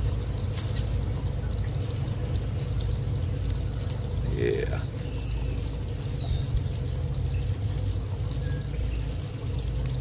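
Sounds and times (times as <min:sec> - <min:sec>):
water trickling in a pond feature: 0:00.0 - 0:10.0.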